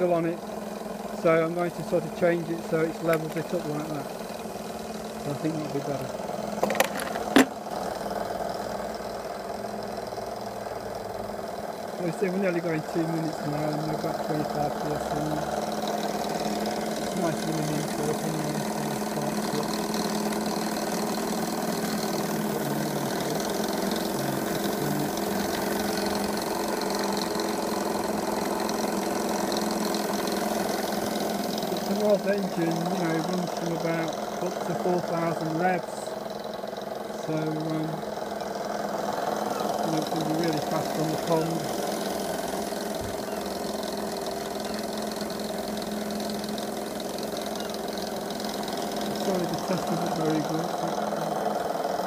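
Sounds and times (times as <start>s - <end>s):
model steam engine running fast: 0.0s - 52.0s.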